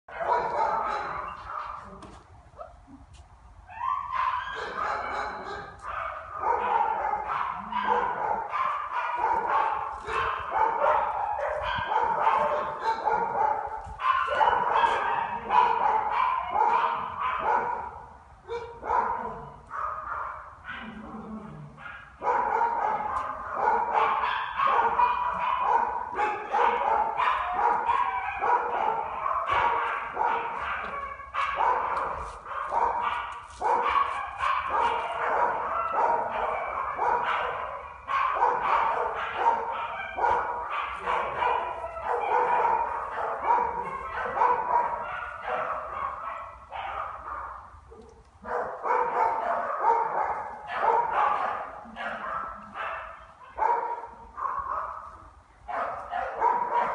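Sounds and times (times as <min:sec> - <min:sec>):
dogs barking: 0:00.1 - 0:02.7, 0:03.7 - 0:56.9.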